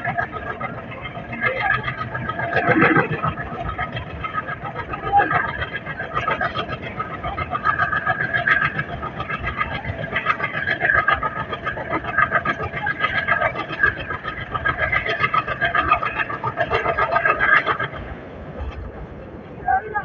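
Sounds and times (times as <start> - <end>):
diesel locomotive drone: 0.0 - 20.0
train rumble and rail clatter: 0.0 - 20.0.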